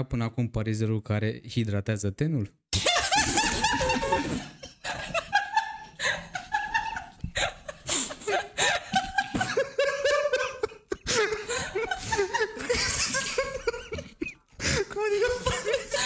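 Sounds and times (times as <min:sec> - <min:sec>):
people laughing: 0:02.8 - 0:16.0.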